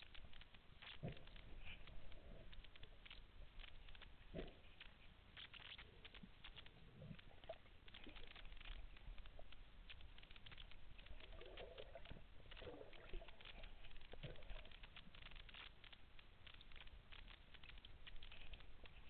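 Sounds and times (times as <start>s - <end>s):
low muffled underwater sounds: 0.0s - 19.0s
snapping shrimp crackle: 0.0s - 19.0s.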